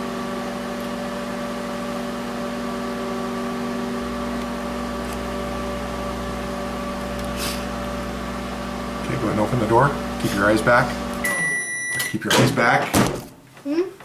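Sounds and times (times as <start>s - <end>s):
microwave oven humming: 0.0s - 13.9s.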